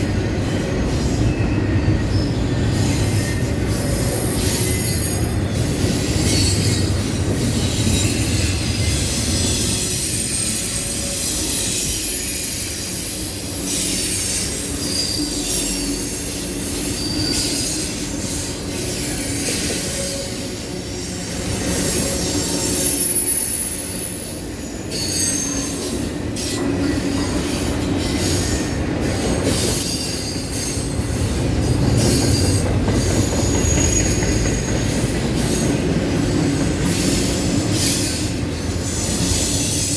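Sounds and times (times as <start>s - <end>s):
freight train rumble: 0.0s - 39.9s
wheel flanges squealing: 0.4s - 39.9s.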